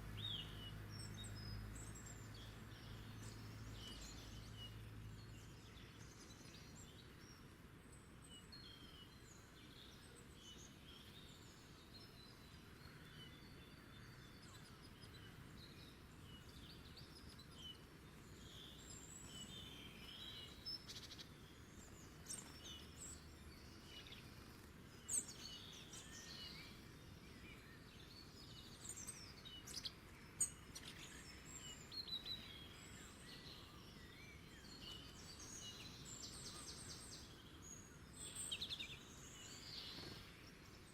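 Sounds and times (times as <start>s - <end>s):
faint birds chirping: 0.0s - 40.9s
soft steady hiss: 0.0s - 40.9s.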